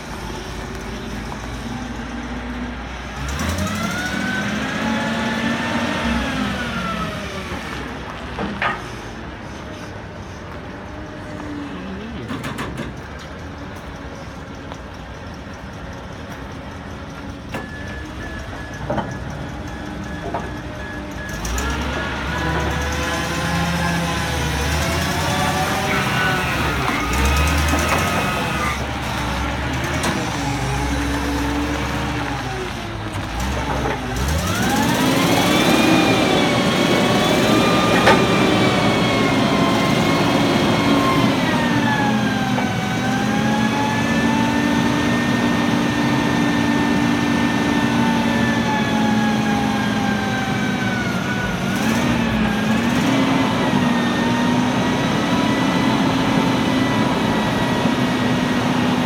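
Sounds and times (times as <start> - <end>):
forklift engine revving: 0.0 - 59.0.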